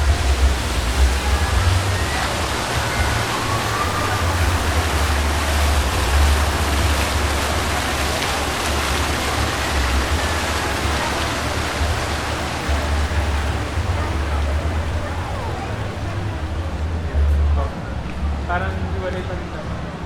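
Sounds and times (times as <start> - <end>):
deep uneven rumble: 0.0 - 20.0
faint distant voices: 0.0 - 20.0
steady rushing noise: 0.0 - 20.0.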